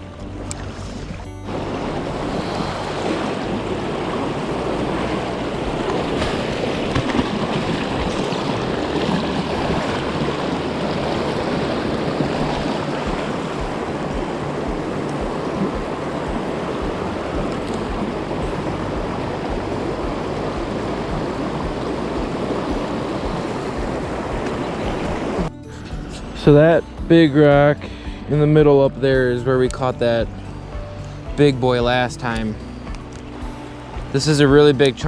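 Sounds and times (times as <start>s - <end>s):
stream water rushing over rocks: 0.0s - 25.6s, 30.0s - 35.0s.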